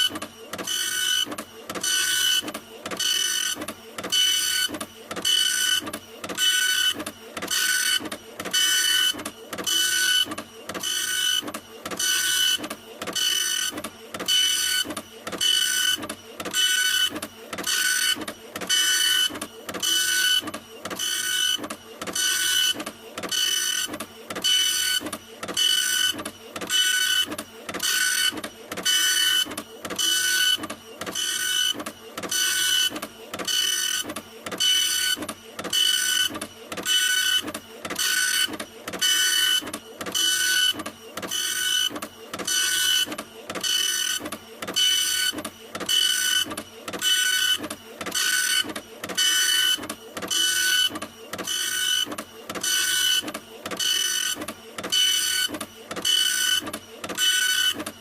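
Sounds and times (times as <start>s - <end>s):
printer head moving with whine: 0.0s - 58.0s.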